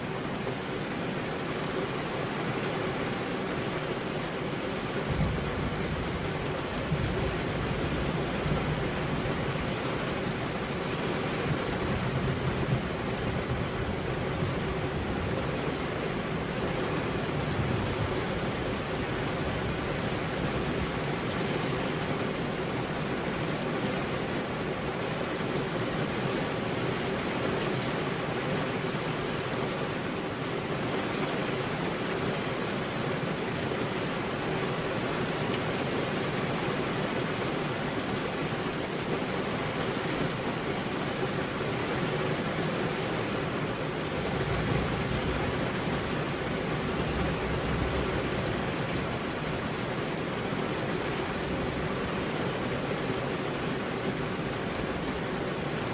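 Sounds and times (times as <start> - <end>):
heavy rain on road: 0.0 - 55.9.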